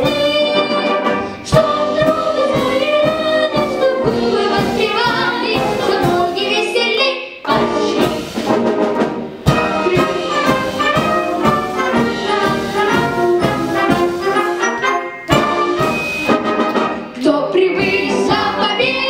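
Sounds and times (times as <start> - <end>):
orchestral music with brass: 0.0 - 6.8, 7.4 - 19.0.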